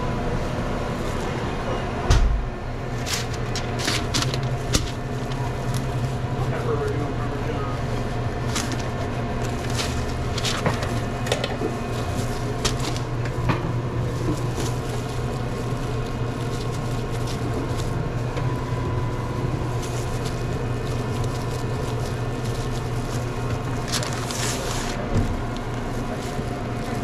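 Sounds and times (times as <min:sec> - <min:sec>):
kitchen equipment humming: 0:00.0 - 0:27.0.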